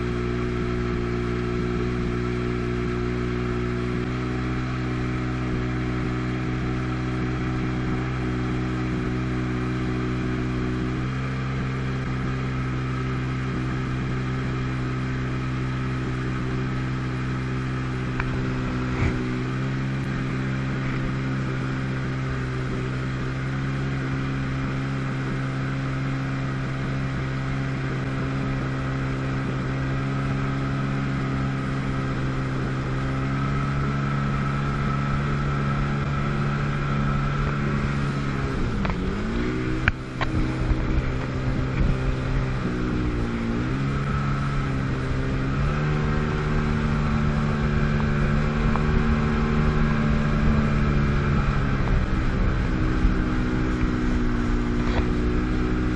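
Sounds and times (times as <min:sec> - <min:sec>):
personal watercraft engine running: 0:00.0 - 0:55.9.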